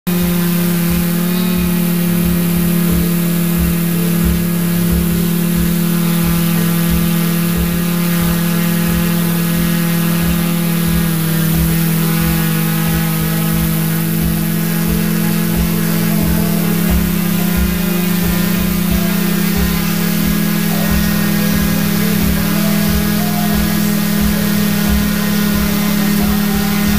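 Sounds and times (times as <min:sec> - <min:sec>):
drone propellers humming: 0:00.0 - 0:26.9
low irregular pulses: 0:00.1 - 0:26.9.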